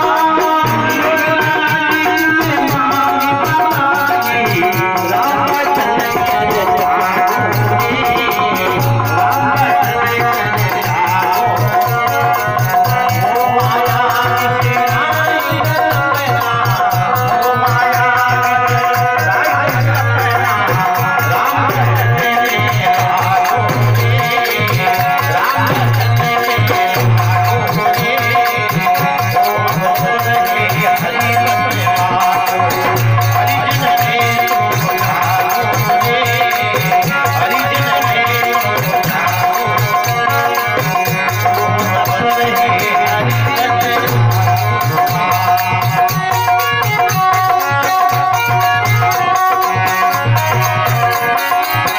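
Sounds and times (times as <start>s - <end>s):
hand drum beating: 0.0s - 51.9s
harmonium held note: 0.0s - 51.9s
light percussion: 0.0s - 51.9s
person singing: 0.0s - 51.9s.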